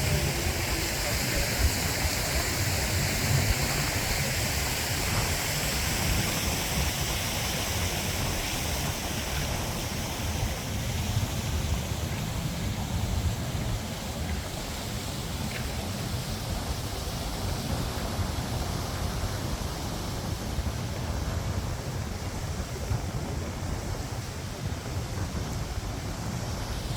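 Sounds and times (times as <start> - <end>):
rushing city noise: 0.0 - 26.9.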